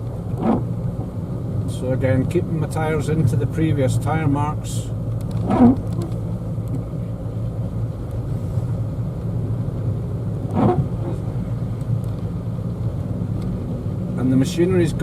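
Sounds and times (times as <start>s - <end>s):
car engine drone from inside: 0.0s - 15.0s.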